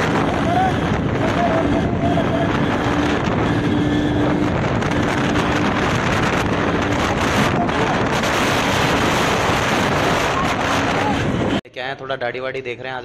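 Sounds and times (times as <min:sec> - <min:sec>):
vehicle road noise: 0:00.0 - 0:11.6
wind buffeting microphone: 0:00.0 - 0:11.6.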